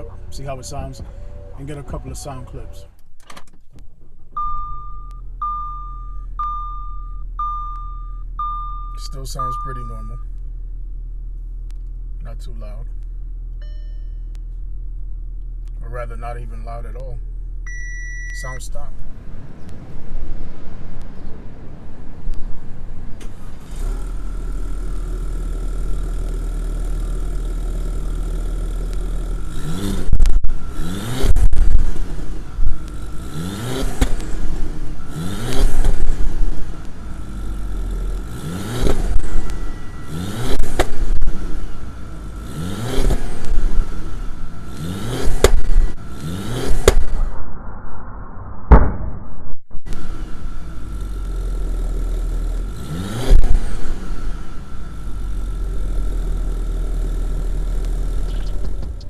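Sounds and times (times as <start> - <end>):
car engine idling and revving: 0.0 - 47.6, 49.8 - 59.0.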